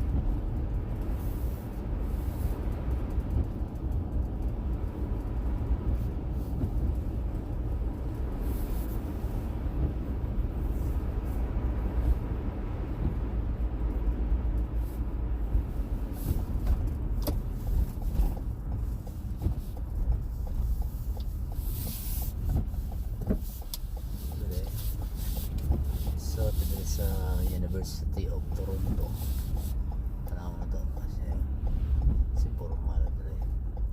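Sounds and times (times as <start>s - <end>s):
car engine and road noise: 0.0s - 33.9s.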